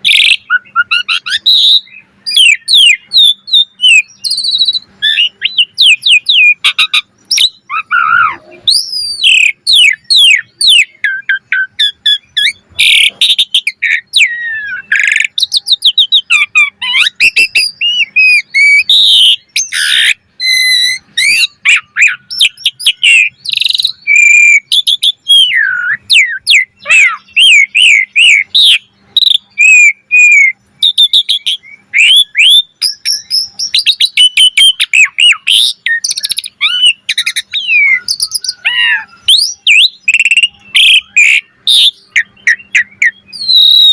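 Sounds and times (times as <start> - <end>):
starling singing: 0.0 - 43.9.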